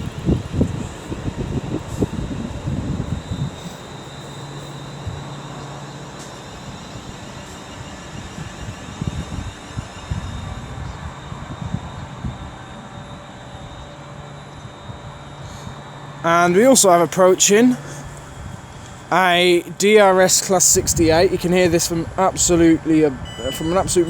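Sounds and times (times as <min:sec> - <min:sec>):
distant diesel locomotive drone: 0:00.0 - 0:24.0
faint high whine: 0:00.0 - 0:24.0.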